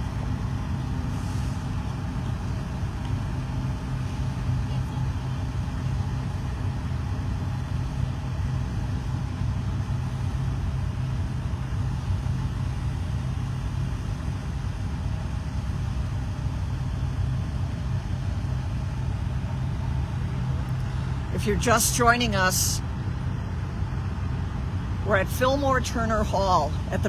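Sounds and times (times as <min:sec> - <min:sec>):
tractor engines droning: 0:00.0 - 0:27.0.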